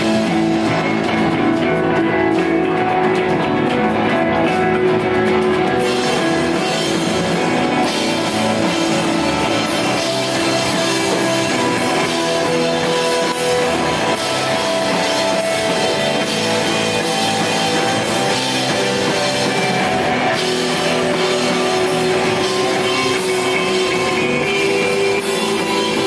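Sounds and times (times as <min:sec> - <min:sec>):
drum kit: 0:00.0 - 0:26.0
electric guitar melody: 0:00.0 - 0:26.0.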